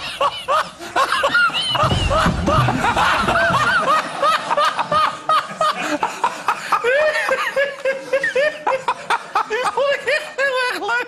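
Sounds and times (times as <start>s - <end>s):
people laughing hard: 0.0s - 11.0s.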